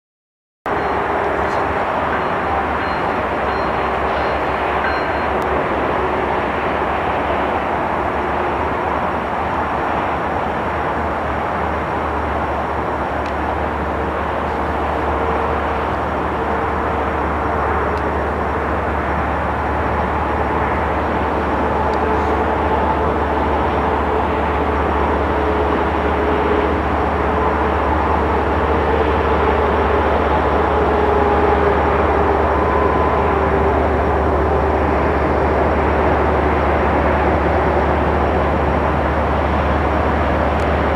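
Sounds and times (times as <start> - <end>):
locomotive engines rumbling: 0.7 - 40.9.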